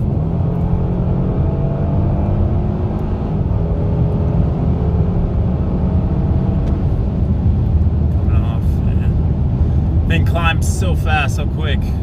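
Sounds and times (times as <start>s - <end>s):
low road and engine rumble: 0.0s - 12.0s.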